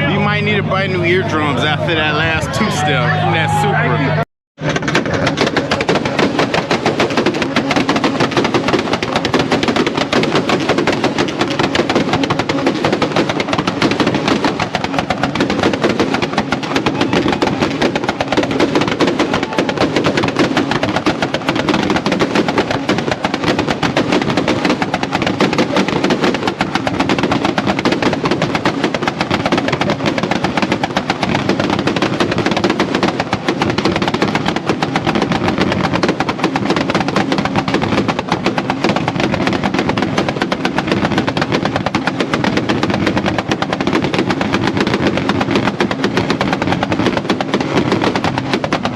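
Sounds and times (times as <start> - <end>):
exhaust pops and bangs: 0.0 - 3.6, 4.6 - 48.9.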